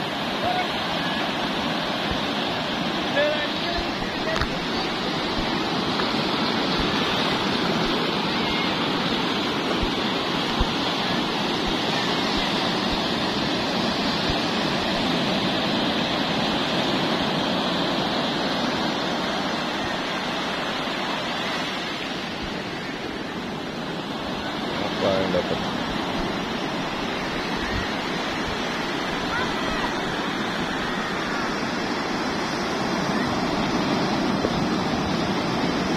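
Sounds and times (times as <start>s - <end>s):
ocean surf breaking: 0.0s - 35.9s.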